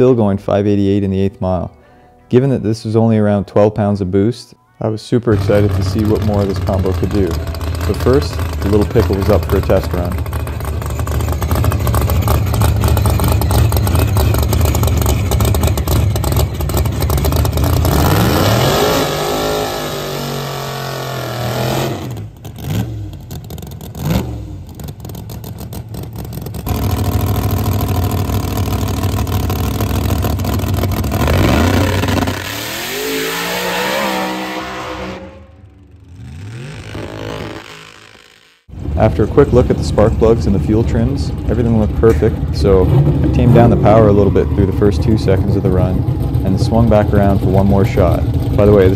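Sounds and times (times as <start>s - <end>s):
race car engine at full throttle: 5.3s - 48.9s.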